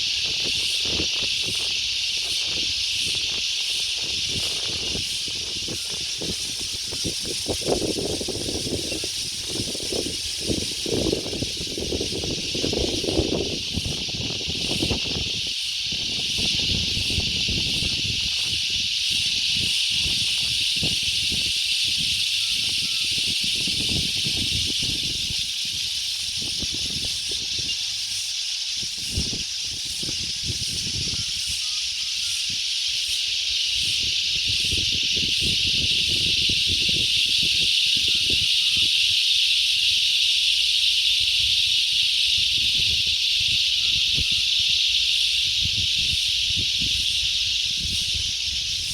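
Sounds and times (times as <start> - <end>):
wind buffeting microphone: 0.0 - 28.0, 28.7 - 32.7, 33.6 - 39.2, 40.8 - 48.9
high-pitched insect drone: 0.0 - 48.9.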